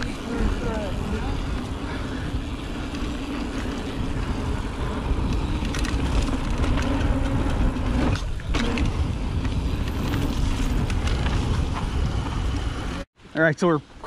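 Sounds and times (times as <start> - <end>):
bike rattling and clicking: 0.0 - 13.0
tyres rolling on dirt: 0.0 - 13.0
wind rushing over microphone: 0.0 - 13.1.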